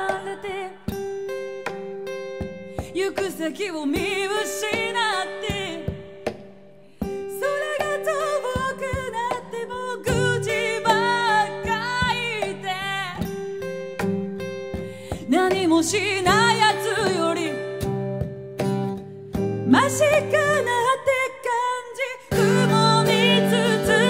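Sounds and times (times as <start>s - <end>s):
woman singing: 0.0s - 1.1s, 2.8s - 13.5s, 15.0s - 18.2s, 19.6s - 24.0s
acoustic guitar plucking: 0.0s - 24.0s.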